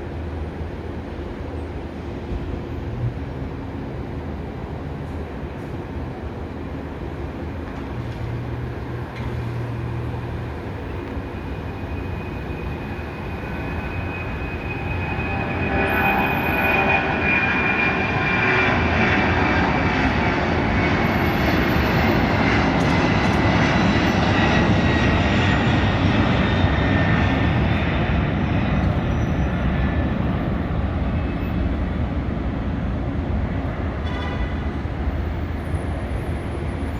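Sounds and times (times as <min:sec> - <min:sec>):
high engine whine: 0:00.0 - 0:36.9
jet engines at takeoff: 0:00.0 - 0:36.9.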